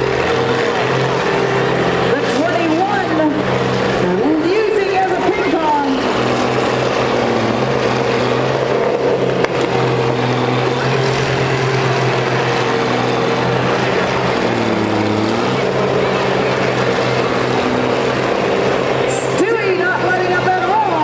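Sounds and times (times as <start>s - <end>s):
diesel engines droning: 0.0s - 21.0s.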